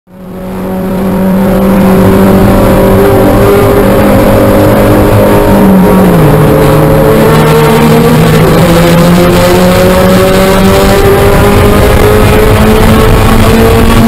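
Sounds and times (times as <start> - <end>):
car engine accelerating: 0.1 - 14.0.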